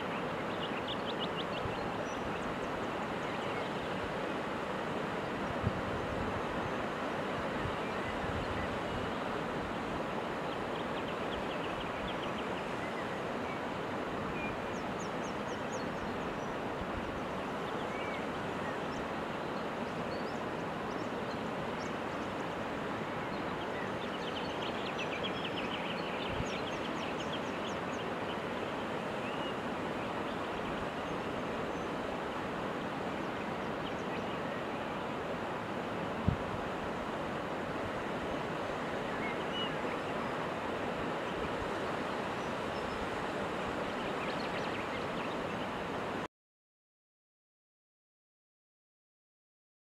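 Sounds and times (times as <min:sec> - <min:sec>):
rushing outdoor background noise: 0:00.0 - 0:46.2.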